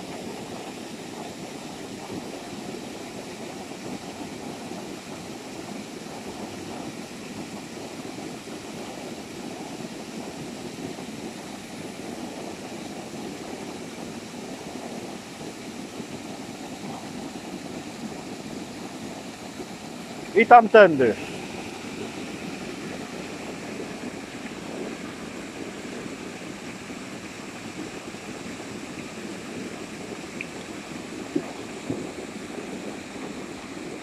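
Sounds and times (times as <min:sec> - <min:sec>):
small waterfall rushing: 0:00.0 - 0:34.0.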